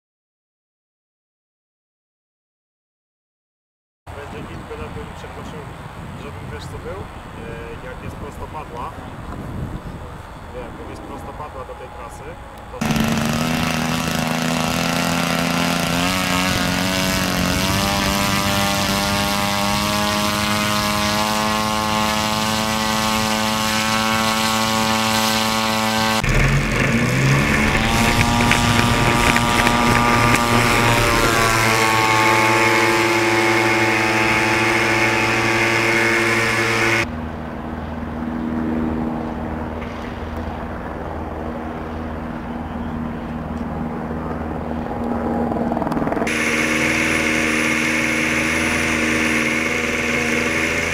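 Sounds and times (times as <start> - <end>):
drone engine and propeller: 4.1 - 50.9.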